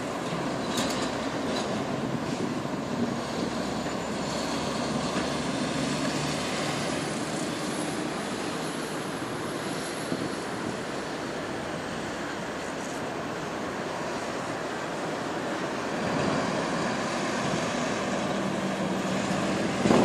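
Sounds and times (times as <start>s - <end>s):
steady traffic roar: 0.0s - 20.0s.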